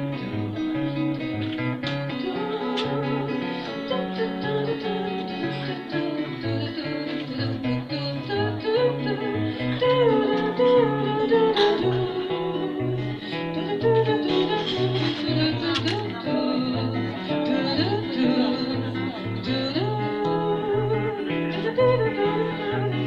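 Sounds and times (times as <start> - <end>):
guitar melody: 0.0 - 23.0.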